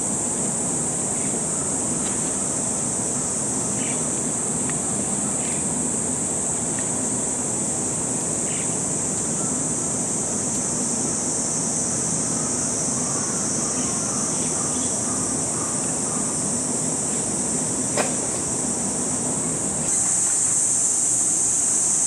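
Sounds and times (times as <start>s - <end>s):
air conditioner hum: 0.0s - 22.0s
cicadas shrilling: 0.0s - 22.0s.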